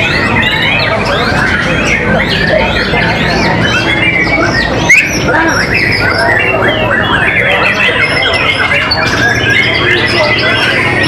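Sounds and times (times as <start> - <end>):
many birds singing: 0.0 - 11.0.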